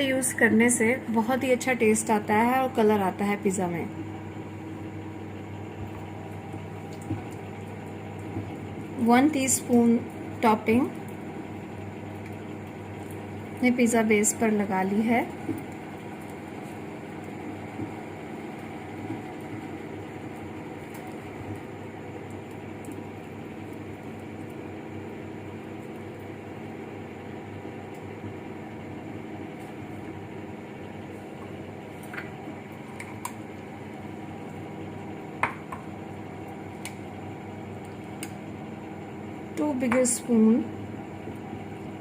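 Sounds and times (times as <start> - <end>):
appliance humming: 0.0 - 42.0.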